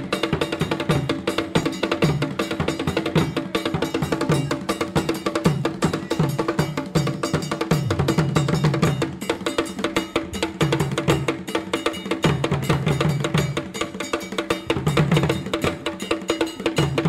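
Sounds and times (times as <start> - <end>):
fast percussion: 0.0 - 17.0.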